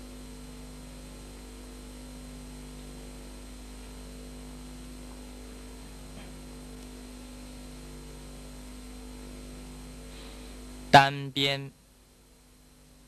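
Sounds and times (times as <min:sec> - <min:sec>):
low electrical hum: 0:00.0 - 0:13.0
tape hiss: 0:00.0 - 0:13.0.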